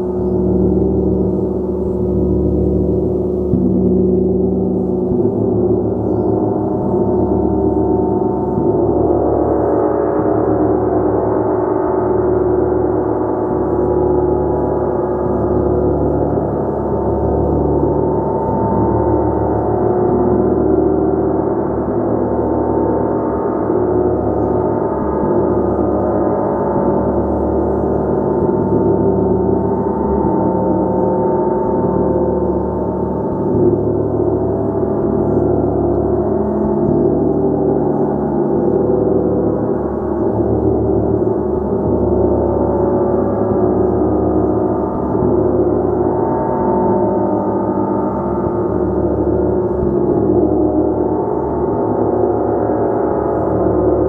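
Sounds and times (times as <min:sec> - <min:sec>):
gong sustained tones: 0:00.0 - 0:54.0.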